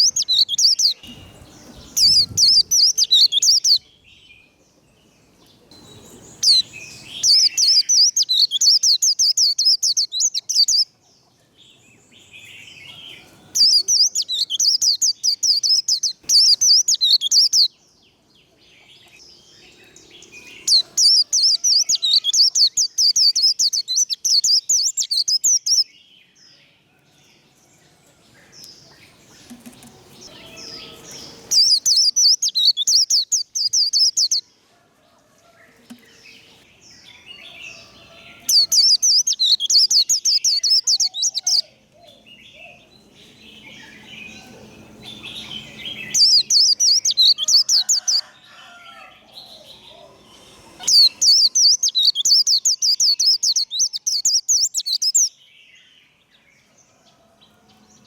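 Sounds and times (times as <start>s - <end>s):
bird twittering song: 0.0s - 26.9s, 28.4s - 34.5s, 35.8s - 56.7s.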